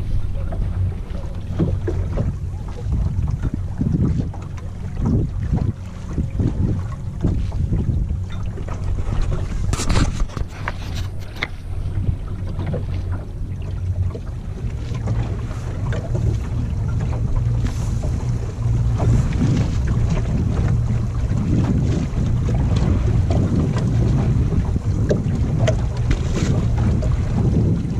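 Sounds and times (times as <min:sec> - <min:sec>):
water splashing against boat hull: 0:00.0 - 0:27.9
wind buffeting microphone: 0:00.0 - 0:27.9.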